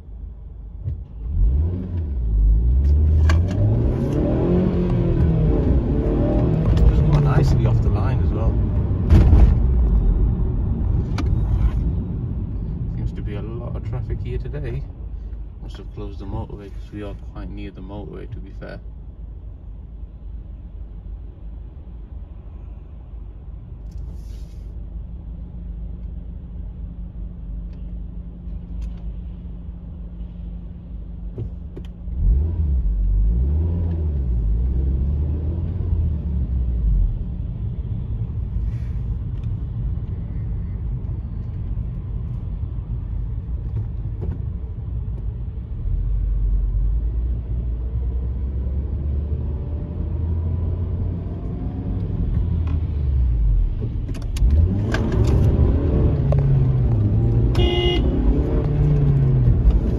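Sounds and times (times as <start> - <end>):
car engine heard from cabin: 0.0 - 59.9
road noise: 0.0 - 59.9.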